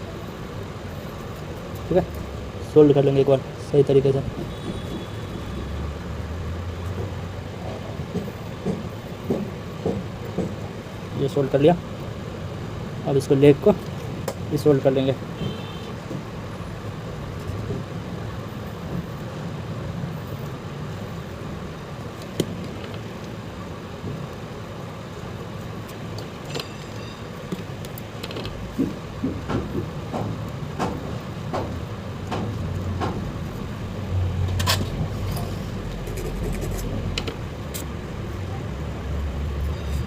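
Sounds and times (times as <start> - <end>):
low rumble of road traffic: 0.0 - 40.0.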